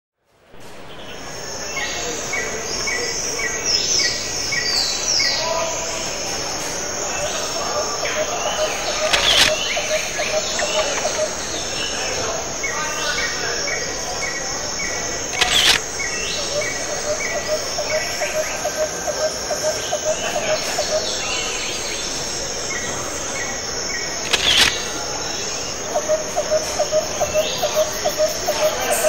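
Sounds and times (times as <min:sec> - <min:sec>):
insects chirping: 0:00.9 - 0:29.0.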